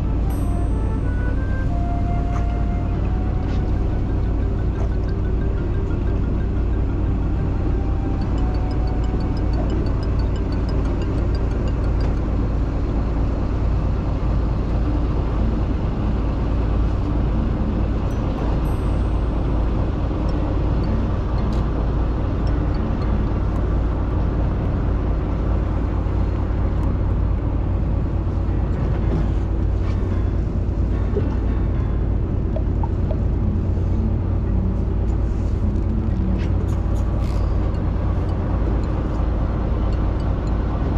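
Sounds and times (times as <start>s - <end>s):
boat engine rumbling: 0.0s - 40.9s
faint hum tones: 0.0s - 40.9s.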